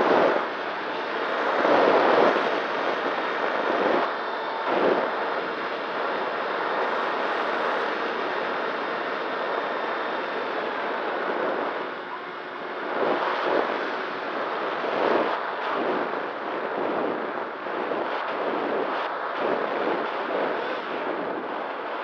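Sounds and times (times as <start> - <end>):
electric motor whine: 0.0 - 18.8
airflow rushing over microphone: 0.0 - 22.0.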